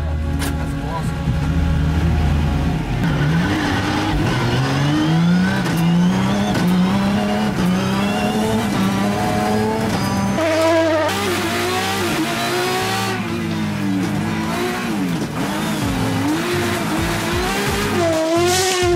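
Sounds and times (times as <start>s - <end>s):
car engine revving hard: 1.4s - 18.9s.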